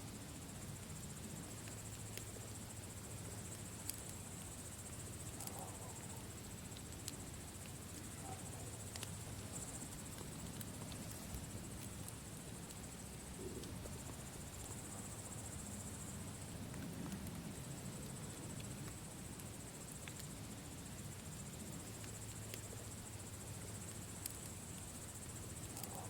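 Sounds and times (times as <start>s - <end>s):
crickets chirring: 0.0s - 26.0s
campfire crackling and popping: 0.6s - 26.0s.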